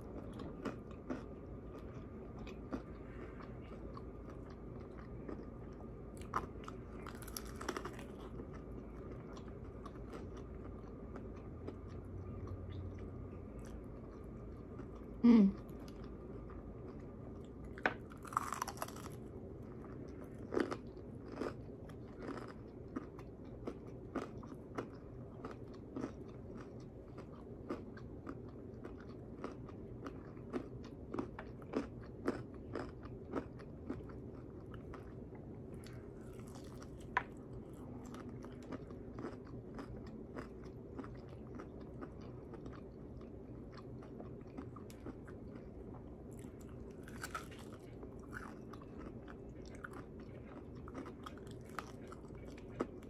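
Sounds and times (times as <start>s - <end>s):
faint steady hum: 0.0s - 53.0s
crunching fried chicken: 0.1s - 53.0s.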